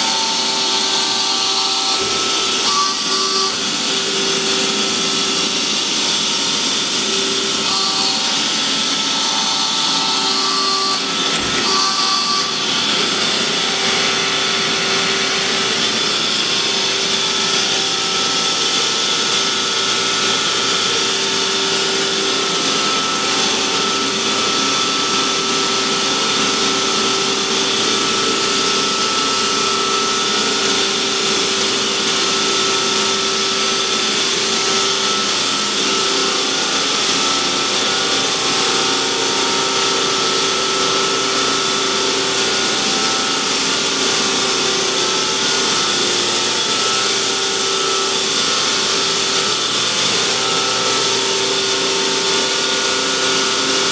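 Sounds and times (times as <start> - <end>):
hydraulic power unit whining: 0.0 - 53.9.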